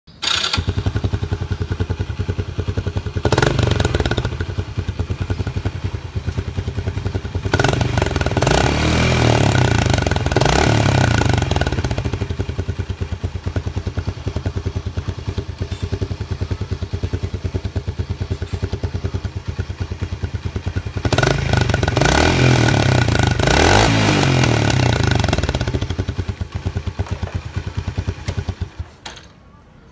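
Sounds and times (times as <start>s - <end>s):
motorcycle engine idling and revving: 0.1s - 29.3s.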